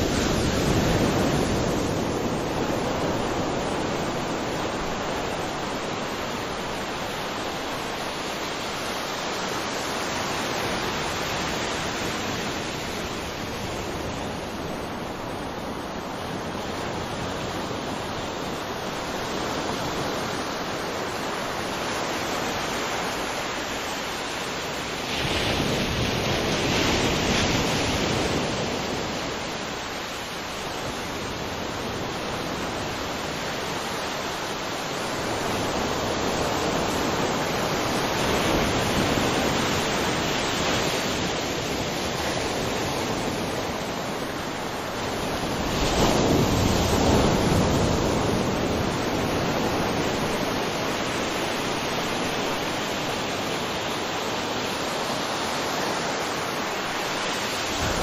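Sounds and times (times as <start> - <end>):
ocean surf rushing: 0.0 - 58.0.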